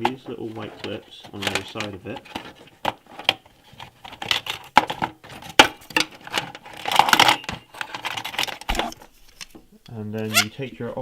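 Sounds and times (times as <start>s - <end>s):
rattling handling noise: 0.0s - 10.6s.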